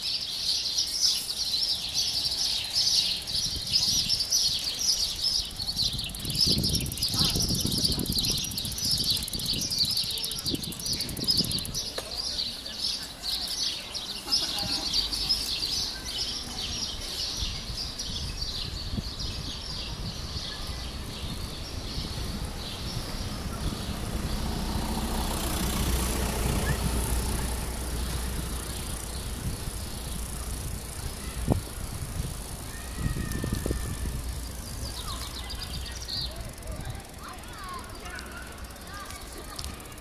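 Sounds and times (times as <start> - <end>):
birds chirping: 0.0 - 40.0
low rumble of wind: 0.0 - 40.0.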